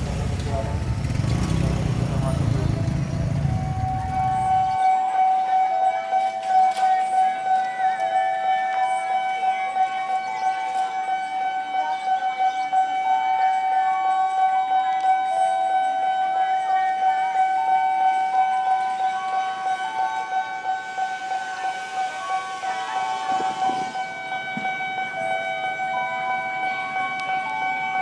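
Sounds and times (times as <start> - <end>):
electronic crossing siren pulsing: 0.0 - 28.0.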